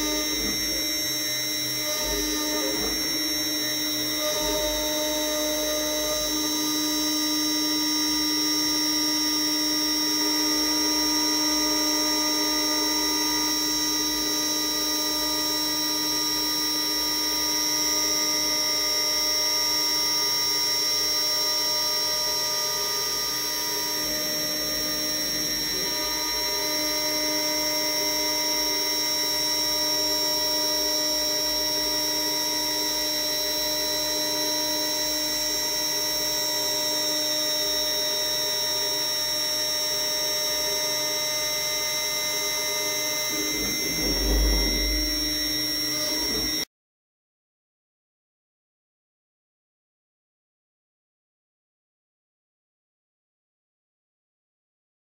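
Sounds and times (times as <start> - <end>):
router spindle whine: 0.0 - 46.7.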